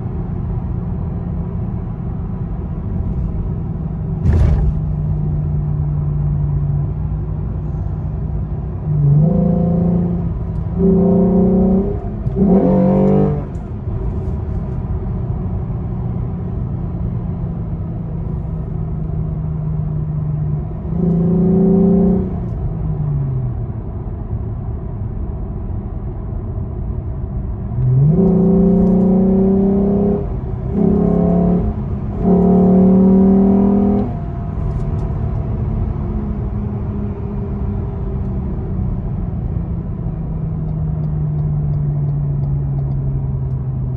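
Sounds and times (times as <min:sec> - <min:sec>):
road rumble: 0:00.0 - 0:43.9.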